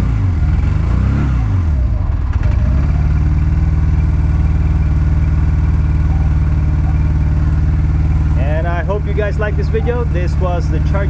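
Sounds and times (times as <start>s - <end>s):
motorcycle engine idling: 0.3s - 11.0s.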